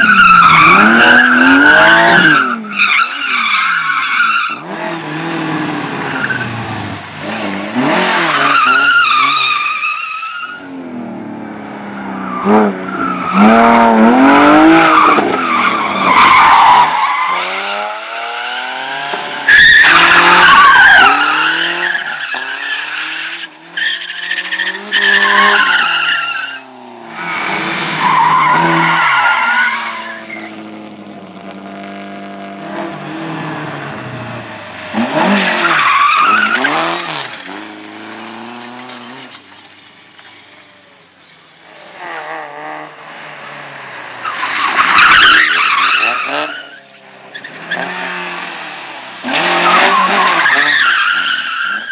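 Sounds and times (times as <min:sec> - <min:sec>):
tyres squealing and skidding: 0:00.0 - 0:10.8, 0:11.8 - 0:31.4, 0:32.8 - 0:42.2, 0:43.5 - 0:51.9
rally car engines revving: 0:00.0 - 0:40.6, 0:41.6 - 0:51.9.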